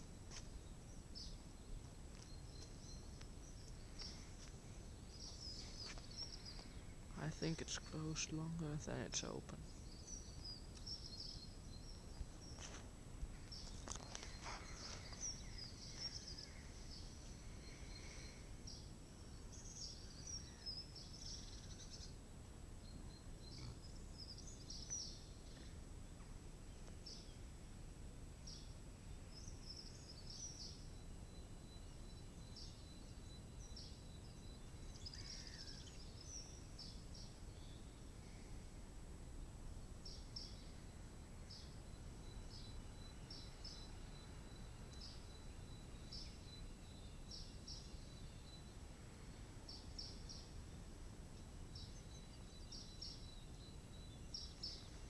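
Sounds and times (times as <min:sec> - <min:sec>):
small birds chirping: 0:00.0 - 0:27.6, 0:28.3 - 0:38.9, 0:39.7 - 0:55.0.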